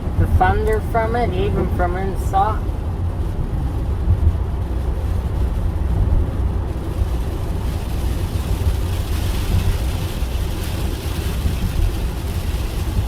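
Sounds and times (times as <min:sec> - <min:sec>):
low rumble in car cabin: 0:00.0 - 0:13.0.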